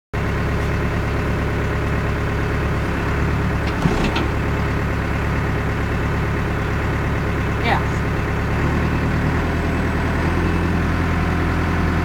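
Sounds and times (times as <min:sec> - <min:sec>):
diesel engine running: 0:00.2 - 0:12.0.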